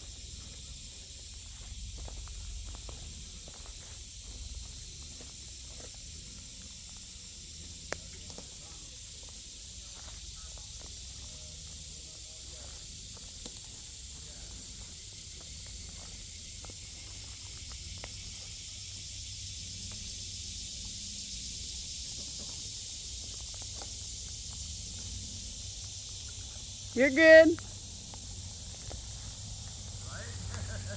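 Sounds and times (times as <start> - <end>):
insects buzzing: 0.0 - 30.9.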